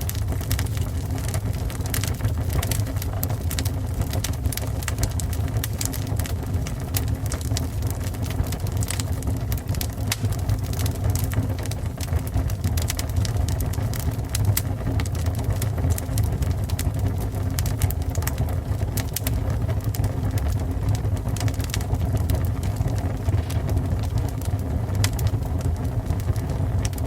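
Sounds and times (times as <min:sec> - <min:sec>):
fire burning with crackles: 0:00.0 - 0:27.0.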